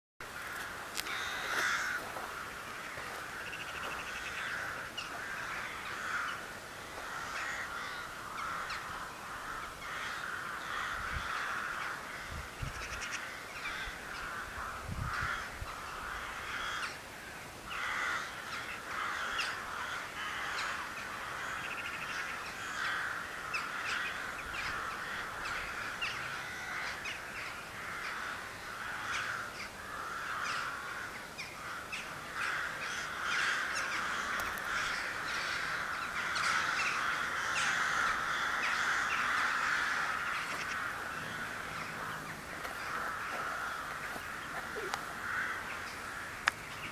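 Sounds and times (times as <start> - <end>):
chorus of birds calling: 0.2 - 46.9.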